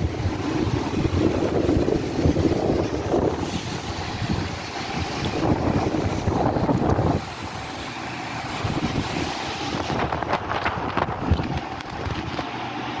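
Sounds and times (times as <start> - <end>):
wind buffeting microphone: 0.0 - 12.4
low steady rumble: 0.0 - 13.0.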